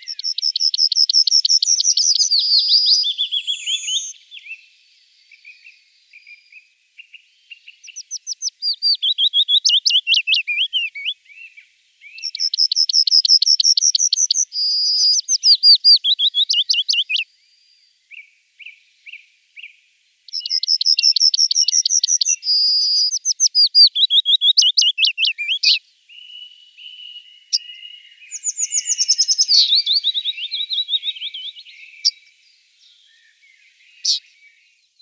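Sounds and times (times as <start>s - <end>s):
songbirds singing: 0.0s - 35.0s.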